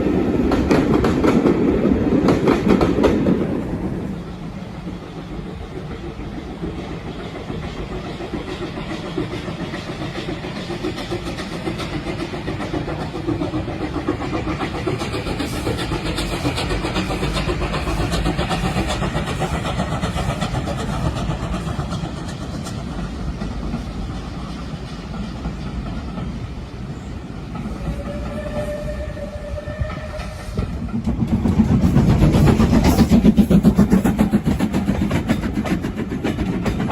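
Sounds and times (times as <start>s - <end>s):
steam train passing: 0.0s - 36.9s.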